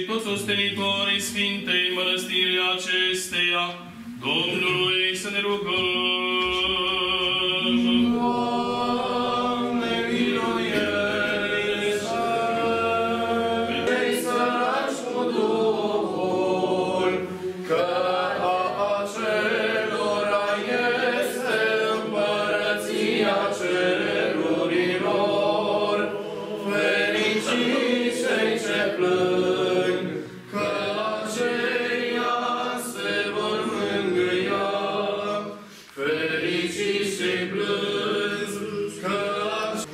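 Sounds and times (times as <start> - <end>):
choir singing chant a cappella: 0.0 - 39.9.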